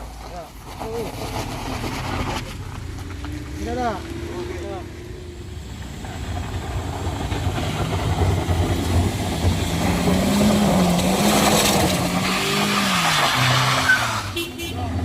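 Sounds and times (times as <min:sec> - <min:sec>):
engine straining uphill: 0:00.0 - 0:15.0.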